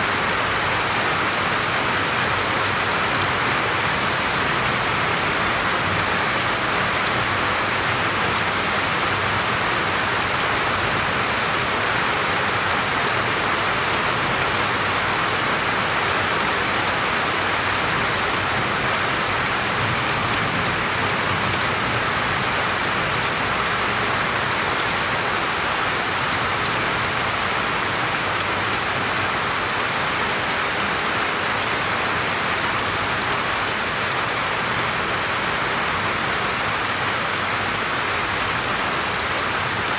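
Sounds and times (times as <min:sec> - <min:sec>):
rain on roof and leaves: 0:00.0 - 0:39.9.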